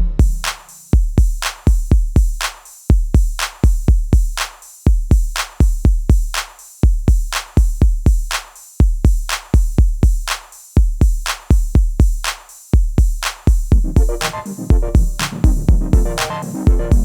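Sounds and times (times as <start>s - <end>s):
drum machine beat: 0.0s - 17.0s.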